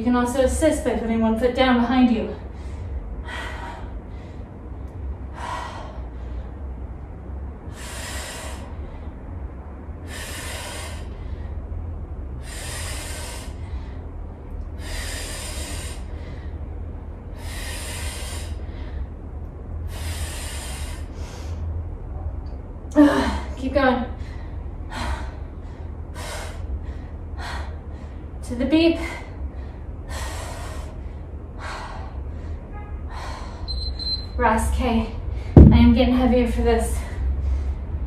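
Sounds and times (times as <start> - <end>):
woman breathing hard: 2.3 - 21.9, 22.9 - 34.0, 36.9 - 38.0.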